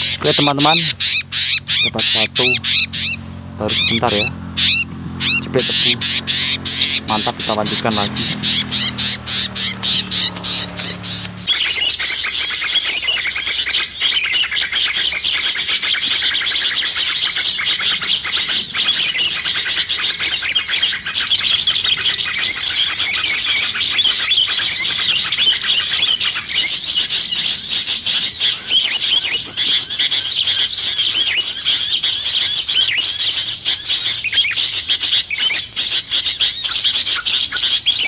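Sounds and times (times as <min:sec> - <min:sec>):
birds chirping in chorus: 0:00.0 - 0:38.0.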